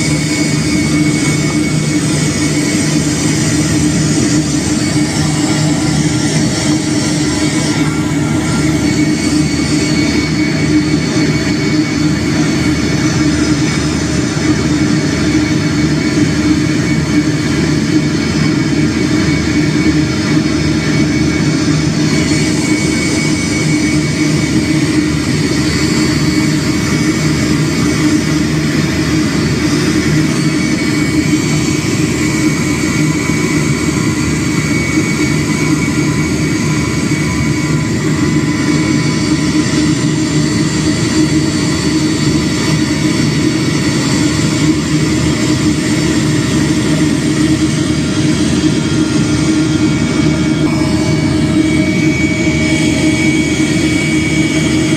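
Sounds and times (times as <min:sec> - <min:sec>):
airliner engines droning: 0:00.0 - 0:54.9.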